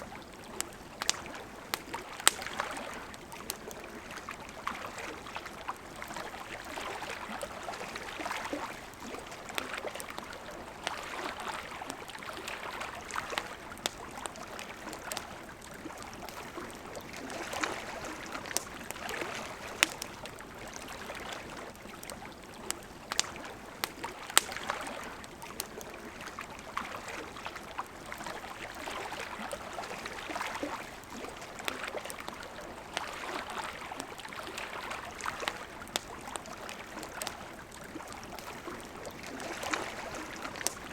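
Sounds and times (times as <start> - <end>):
campfire crackling and popping: 0.0 - 40.9
river water flowing: 0.0 - 40.9.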